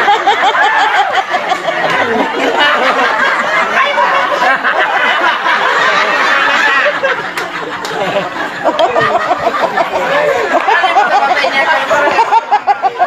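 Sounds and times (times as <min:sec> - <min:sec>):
crowd laughing and chattering: 0:00.0 - 0:13.0.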